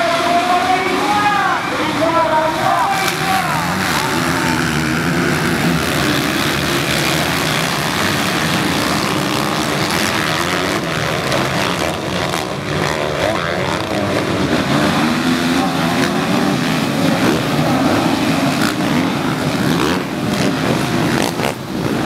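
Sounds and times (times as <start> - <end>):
motocross bike engines droning: 0.0 - 22.0.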